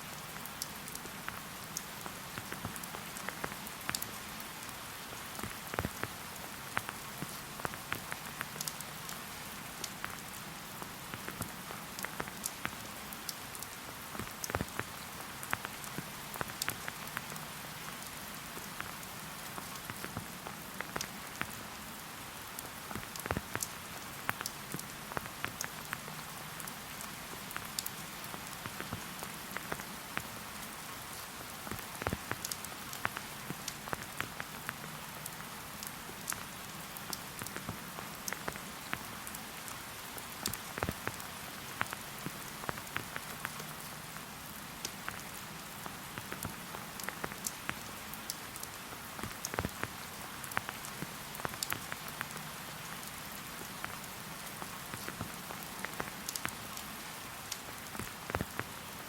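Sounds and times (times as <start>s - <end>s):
steady rain falling: 0.0s - 59.0s
raindrops clicking: 0.4s - 4.6s, 5.4s - 21.6s, 22.6s - 30.3s, 31.7s - 44.0s, 44.7s - 45.5s, 46.1s - 56.8s, 57.5s - 58.8s.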